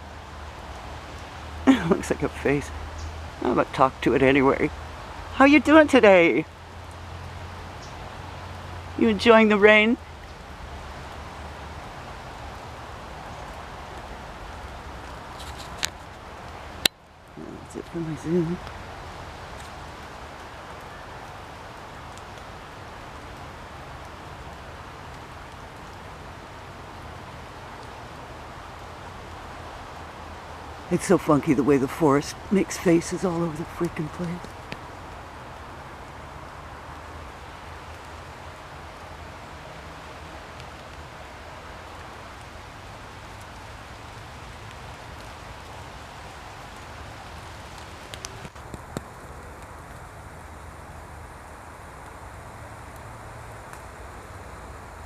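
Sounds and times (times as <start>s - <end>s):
rain on foliage: 0.0s - 55.0s.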